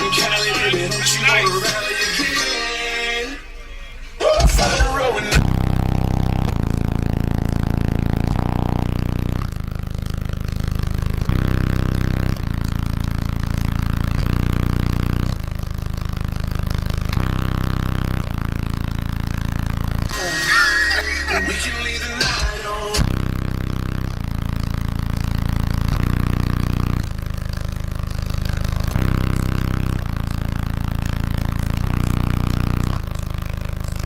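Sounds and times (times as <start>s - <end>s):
deep bass music from car speakers: 0.0s - 34.0s.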